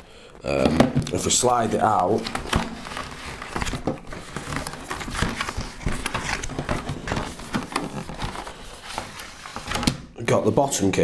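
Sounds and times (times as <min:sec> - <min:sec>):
plastic scraping against cardboard: 0:00.5 - 0:11.0.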